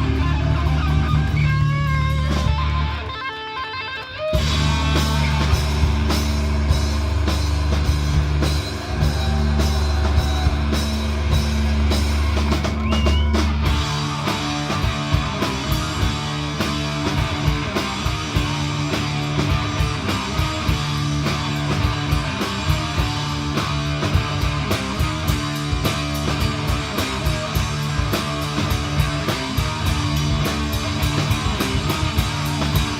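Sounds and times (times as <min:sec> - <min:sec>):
rock music on drums and guitar: 0:00.0 - 0:32.9.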